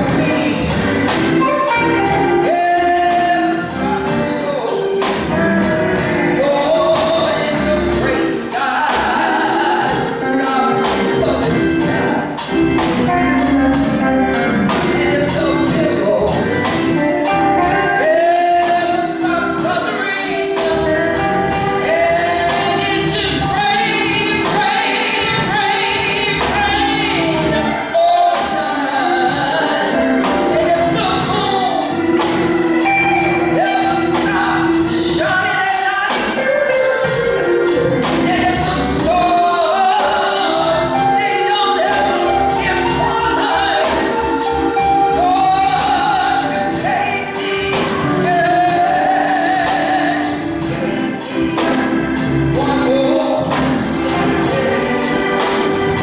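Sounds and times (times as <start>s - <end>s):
band playing gospel music: 0.0s - 56.0s
choir singing: 0.0s - 56.0s.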